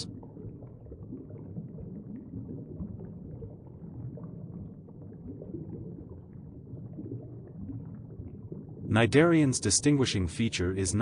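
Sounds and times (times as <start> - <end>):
low underwater rumble: 0.0 - 8.9
faint bubbling: 0.0 - 11.0.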